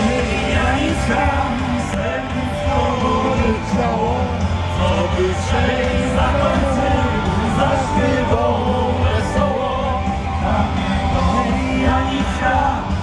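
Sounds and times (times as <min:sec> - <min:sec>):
heavy bass: 0:00.0 - 0:13.0
loud amplified music with singing: 0:00.0 - 0:13.0.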